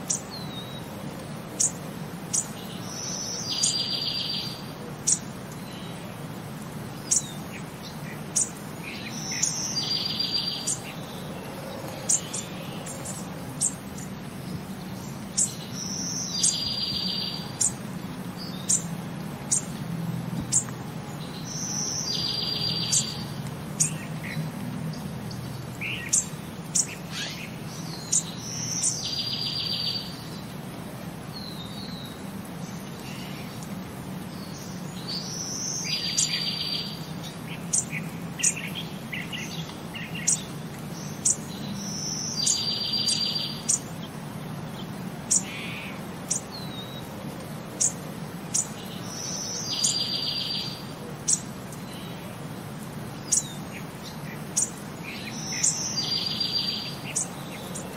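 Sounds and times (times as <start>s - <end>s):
steady low background noise: 0.0s - 57.9s.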